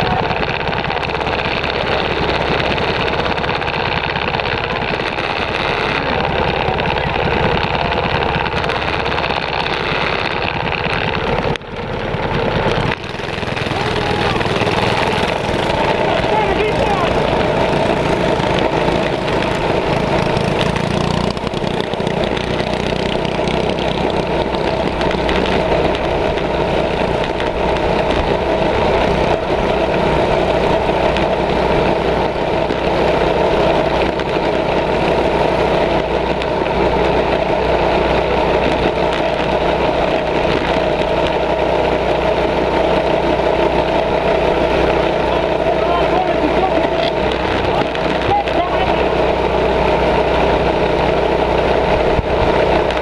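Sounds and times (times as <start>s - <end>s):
mini bike engine running: 0.0s - 53.0s.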